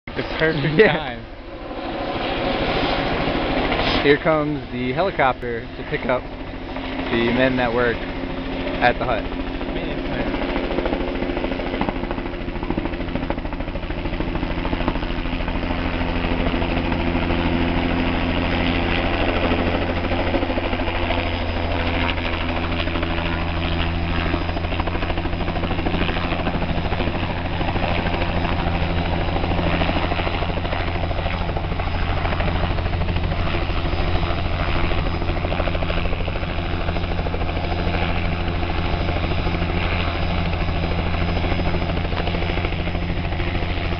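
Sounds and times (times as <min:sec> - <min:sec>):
helicopter rotor and engine: 0:00.1 - 0:43.9.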